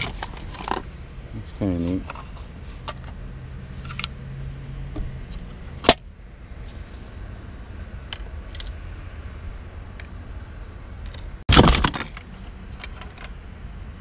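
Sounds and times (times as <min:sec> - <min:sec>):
low steady background rumble: 0:00.0 - 0:14.0.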